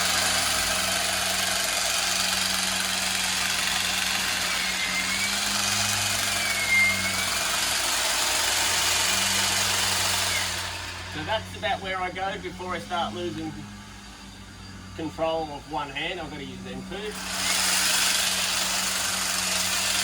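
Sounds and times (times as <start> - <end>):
hedge trimmer running: 0.0 - 20.0.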